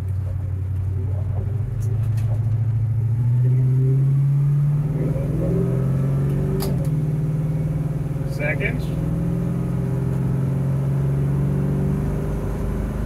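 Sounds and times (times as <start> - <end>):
car engine pulling: 0.0 - 13.0.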